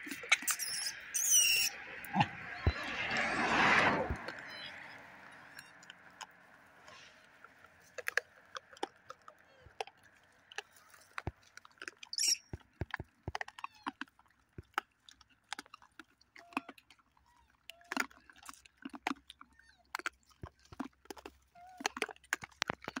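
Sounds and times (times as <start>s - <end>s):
monkeys chewing food: 0.0s - 23.0s.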